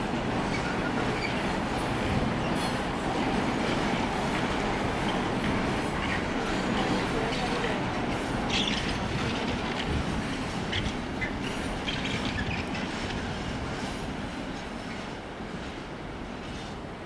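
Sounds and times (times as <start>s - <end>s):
train wagons rolling: 0.1s - 15.8s.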